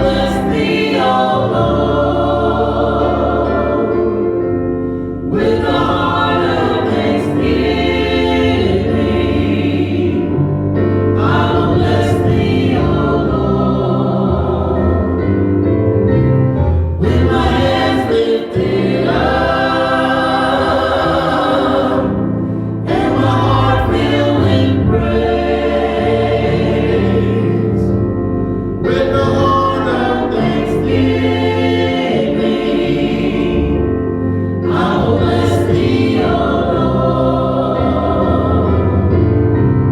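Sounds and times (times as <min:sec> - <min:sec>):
church choir singing: 0:00.0 - 0:39.9
low musical accompaniment: 0:00.0 - 0:39.9.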